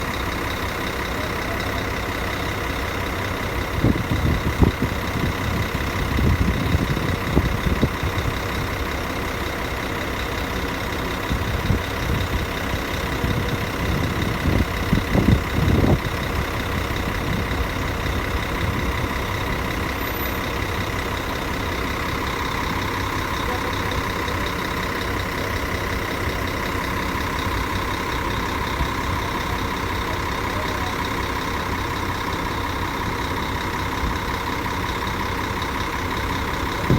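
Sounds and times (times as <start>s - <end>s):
bus diesel engine idling: 0.0s - 36.9s
engine whine: 0.0s - 36.9s.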